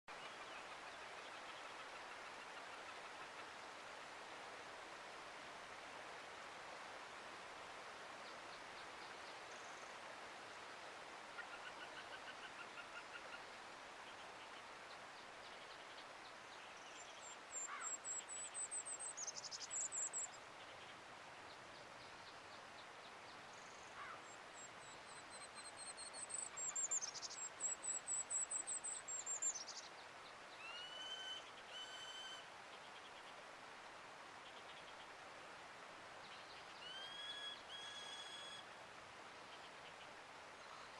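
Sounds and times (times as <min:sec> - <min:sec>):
forest ambience hiss: 0:00.1 - 0:40.9.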